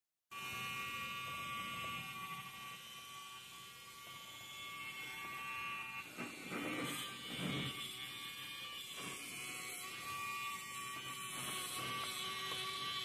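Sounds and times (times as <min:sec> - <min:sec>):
small electric motor whirring: 0:00.3 - 0:13.0.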